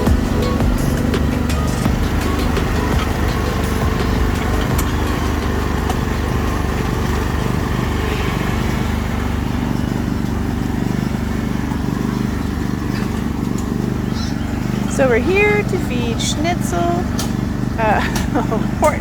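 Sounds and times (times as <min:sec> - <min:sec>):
farm vehicle engine rumbling: 0:00.0 - 0:19.0.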